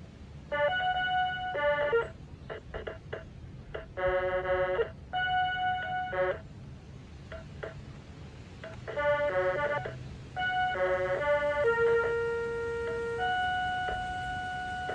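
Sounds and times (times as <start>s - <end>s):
glitchy electronic keyboard tones: 0.5s - 6.4s, 7.3s - 7.8s, 8.6s - 14.9s.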